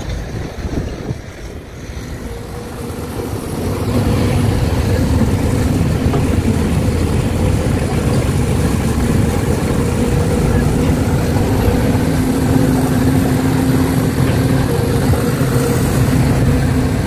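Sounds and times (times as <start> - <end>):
heavy diesel engine rumbling: 0.0 - 17.0.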